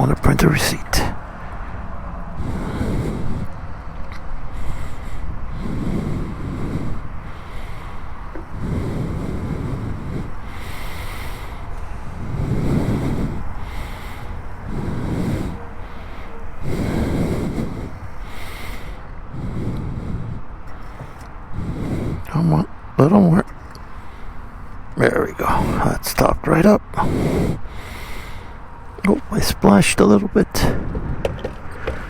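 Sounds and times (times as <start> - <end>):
background hiss: 0.0 - 1.2, 2.4 - 30.8
person breathing: 0.0 - 32.0.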